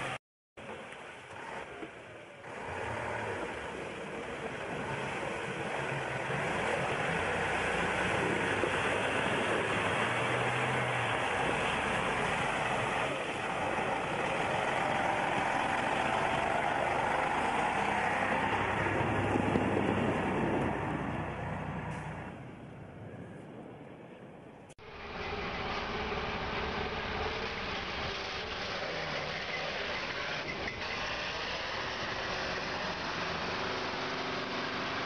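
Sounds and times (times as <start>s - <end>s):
truck engine working hard: 1.3s - 22.4s, 24.8s - 35.0s.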